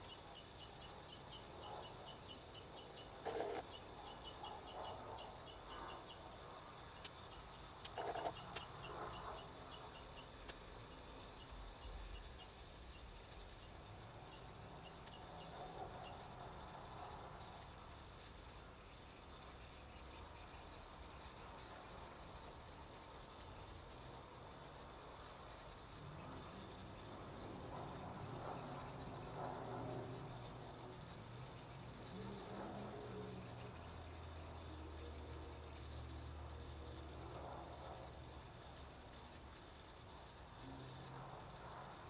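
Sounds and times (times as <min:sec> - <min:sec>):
crickets chirping: 0:00.0 - 0:42.0.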